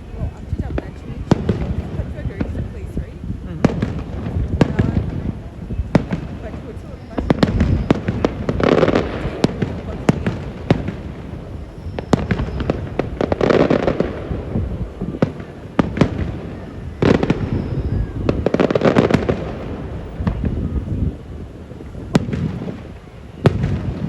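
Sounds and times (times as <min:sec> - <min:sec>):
firework crackles and pops: 0:00.0 - 0:24.0
firework shells booming: 0:00.0 - 0:24.0.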